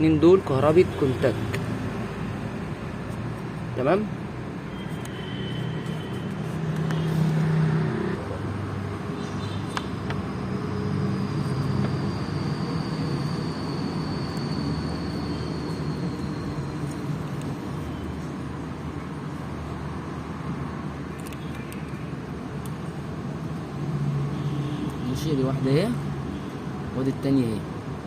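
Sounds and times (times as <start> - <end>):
vehicle engine humming: 0.5 - 24.7.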